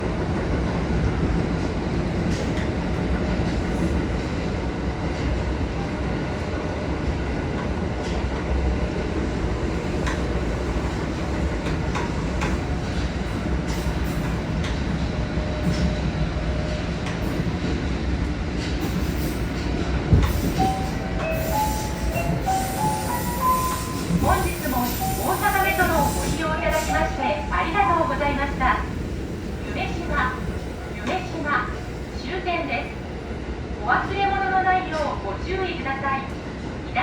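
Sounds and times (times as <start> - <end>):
rumble of train wheels on rail: 0.0 - 37.0.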